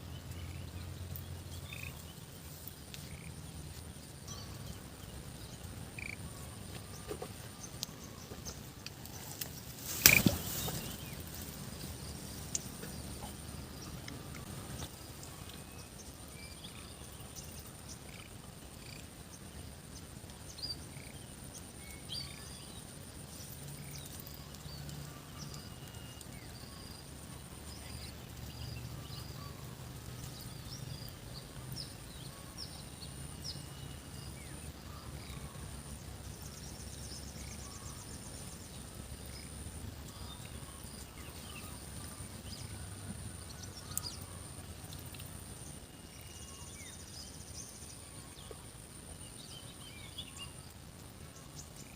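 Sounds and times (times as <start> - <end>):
insect drone: 0.0 - 51.9.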